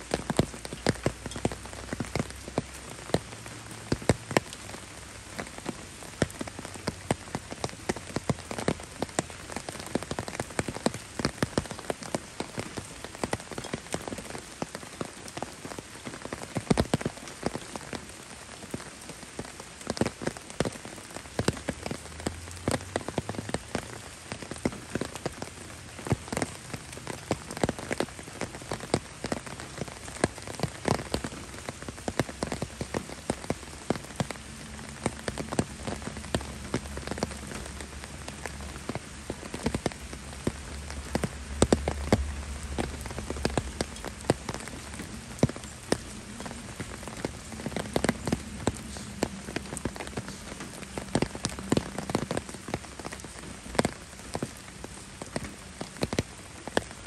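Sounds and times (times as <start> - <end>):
sharp raindrop hits: 0.0 - 57.0
steady rain hissing: 0.0 - 57.0.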